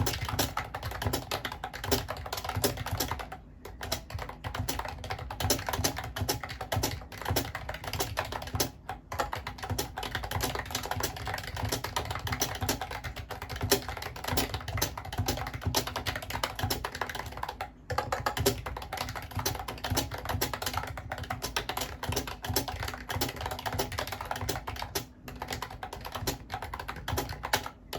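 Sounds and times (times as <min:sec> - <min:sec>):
keyboard key clicks: 0:00.0 - 0:27.9.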